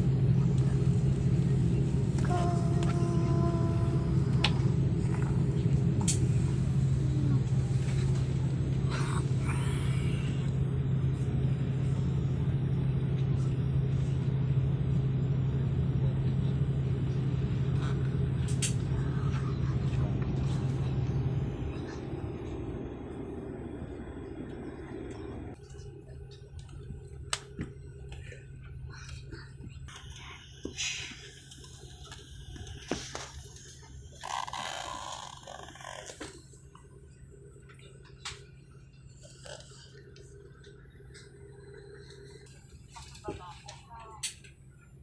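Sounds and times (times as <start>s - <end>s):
airliner cabin engine drone: 0.0s - 45.0s.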